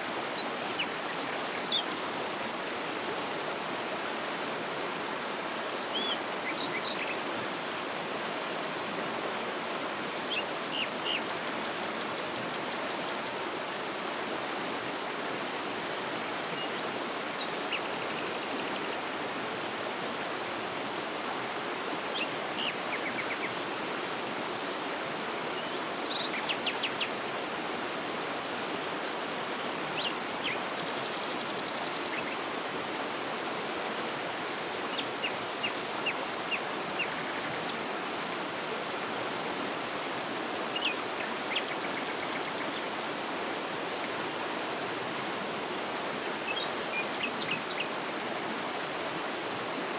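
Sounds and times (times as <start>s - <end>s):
waterfall: 0.0s - 49.9s.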